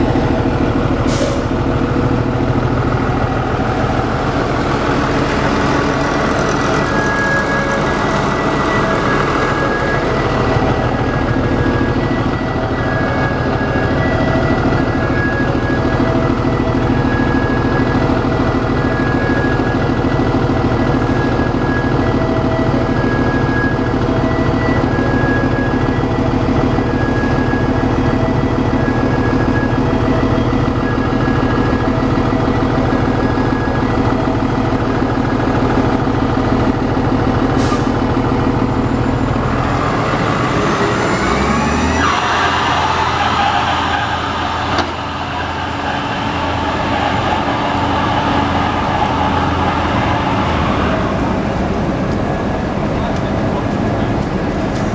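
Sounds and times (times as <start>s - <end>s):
bus diesel engine running: 0.0s - 54.9s
high-pitched belt squeal: 2.3s - 26.0s, 28.5s - 52.1s.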